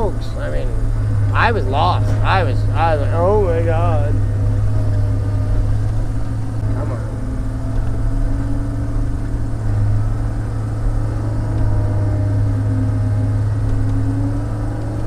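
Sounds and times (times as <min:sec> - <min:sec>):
diesel engine drone: 0:00.0 - 0:15.0
faint engine whine: 0:00.0 - 0:15.0.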